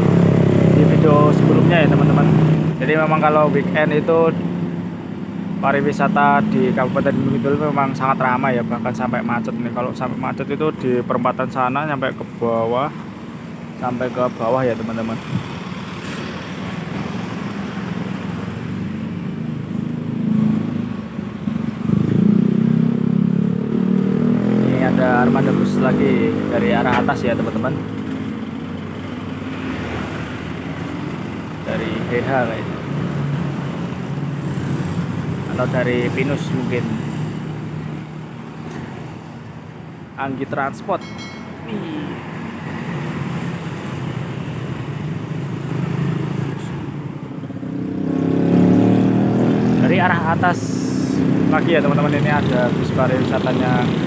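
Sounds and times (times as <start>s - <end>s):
road noise: 0.0s - 54.0s
vehicle engines passing: 0.0s - 54.0s.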